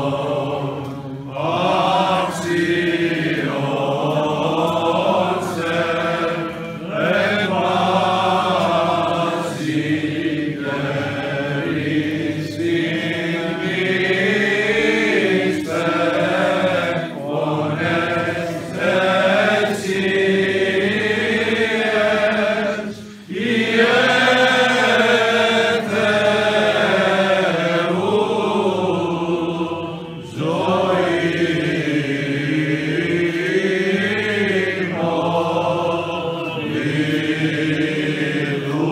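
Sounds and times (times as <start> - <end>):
men chanting a hymn: 0.0 - 38.9.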